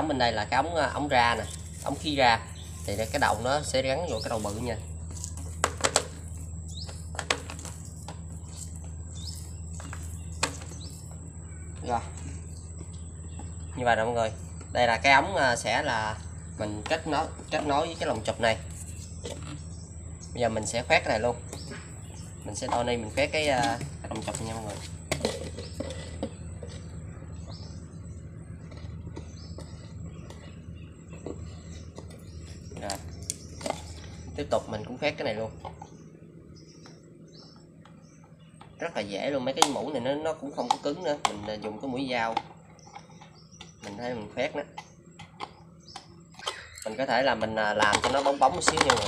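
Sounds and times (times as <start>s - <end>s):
bird chirping: 0.0s - 49.0s
steady low hum: 0.0s - 49.0s.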